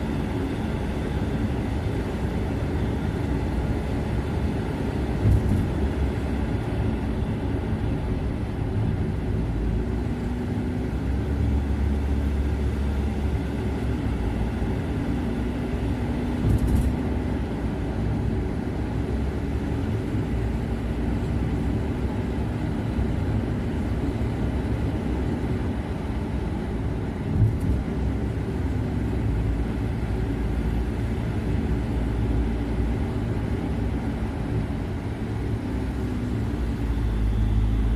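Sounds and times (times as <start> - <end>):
car engine and tyre rumble: 0.0 - 37.9.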